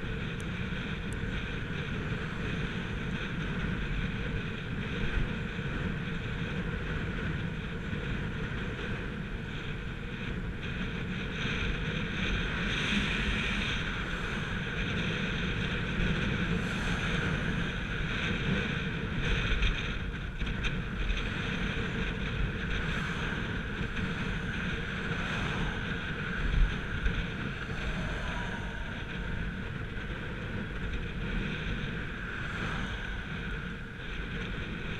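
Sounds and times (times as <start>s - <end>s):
bicycle tyres rumbling on asphalt: 0.0s - 34.9s
wind on microphone: 0.0s - 34.9s.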